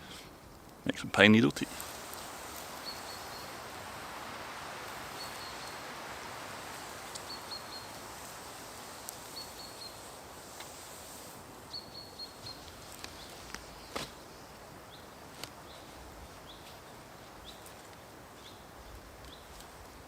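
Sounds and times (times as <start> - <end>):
steady rustling hiss: 0.0 - 20.0.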